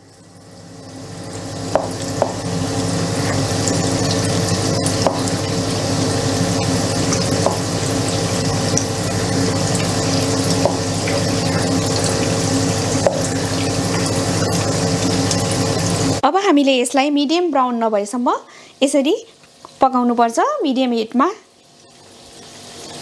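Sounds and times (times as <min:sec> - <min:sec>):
patties sizzling in hot oil: 0:00.0 - 0:16.2, 0:18.1 - 0:23.0.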